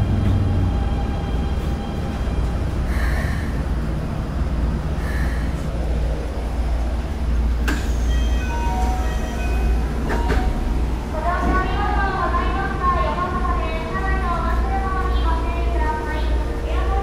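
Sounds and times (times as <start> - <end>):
low rumble of running train: 0.0 - 17.0.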